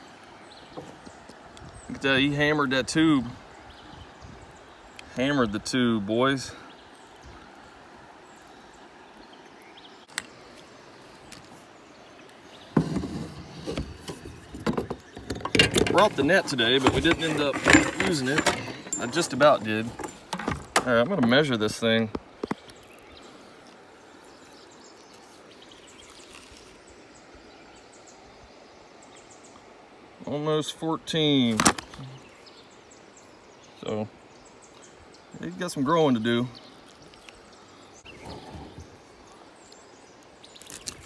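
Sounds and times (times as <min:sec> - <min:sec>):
river water flowing: 0:00.0 - 0:41.0
steady background hiss: 0:00.0 - 0:41.0.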